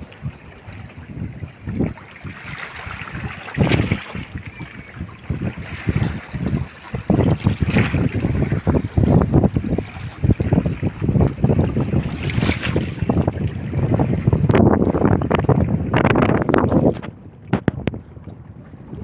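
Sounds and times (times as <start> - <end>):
seawater lapping around rocks: 0.0 - 19.0
wind buffeting microphone: 0.0 - 19.0.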